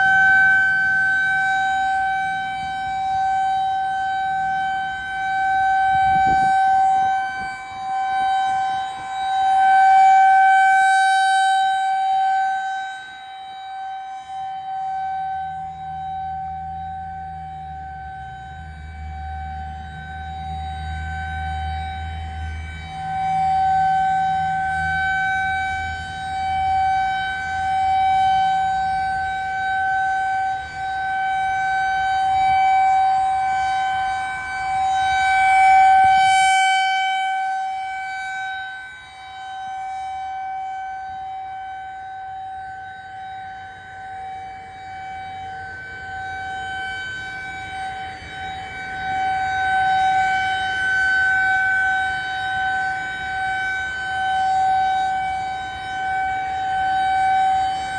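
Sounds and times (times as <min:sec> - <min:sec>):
rotating warning siren steady tone: 0:00.0 - 0:57.9.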